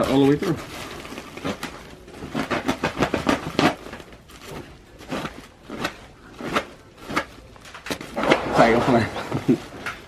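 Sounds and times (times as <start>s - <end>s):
flexible duct crinkling: 0.0s - 10.0s.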